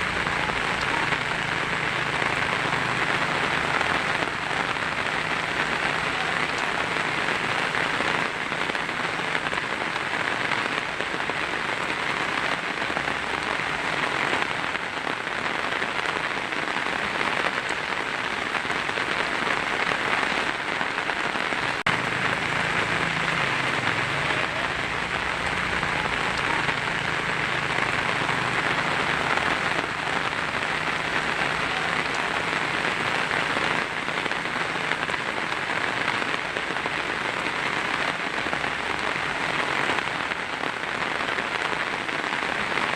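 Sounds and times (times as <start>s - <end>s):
heavy rain on a tin roof: 0.0s - 42.9s.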